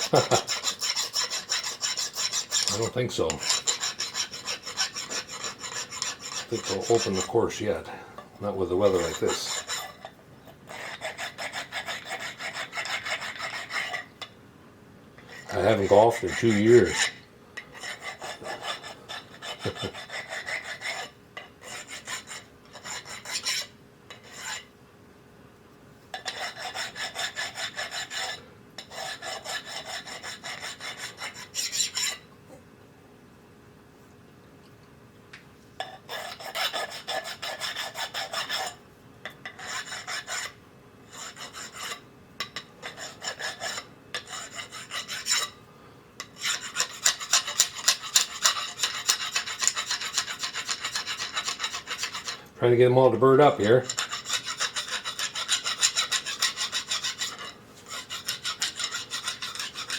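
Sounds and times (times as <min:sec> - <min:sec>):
hand file rasping on metal: 0:00.0 - 0:07.8, 0:08.7 - 0:10.1, 0:10.7 - 0:14.1, 0:15.3 - 0:24.7, 0:26.2 - 0:32.2, 0:35.8 - 0:38.8, 0:39.4 - 0:45.6, 0:46.2 - 0:52.5, 0:53.4 - 0:59.9.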